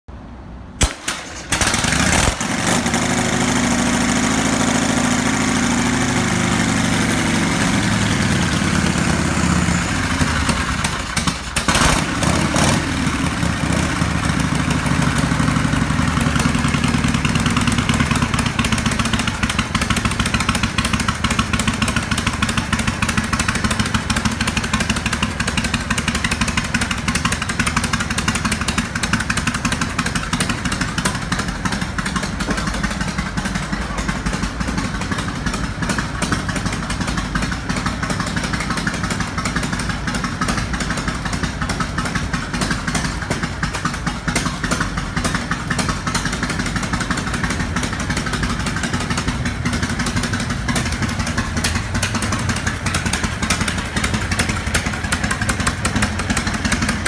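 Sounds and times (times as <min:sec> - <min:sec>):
motorcycle engine idling: 0:01.4 - 0:57.0.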